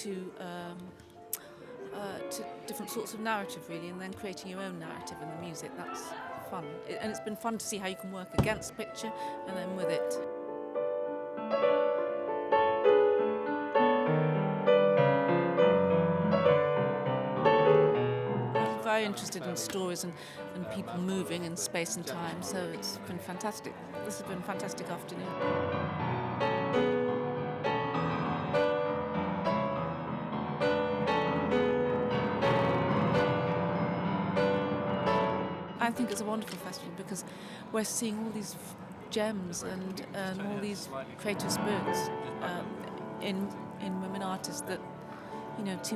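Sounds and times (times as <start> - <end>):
piano playing slow chords: 8.3 - 39.6, 40.4 - 45.9.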